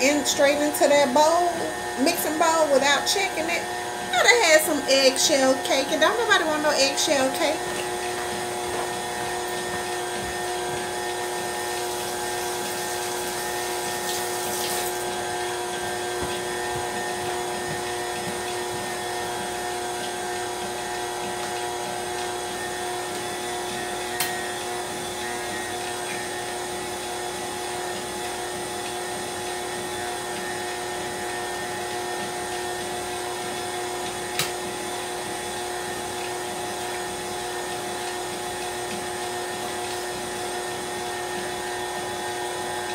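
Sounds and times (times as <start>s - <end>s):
stand mixer motor whine: 0.0s - 42.9s.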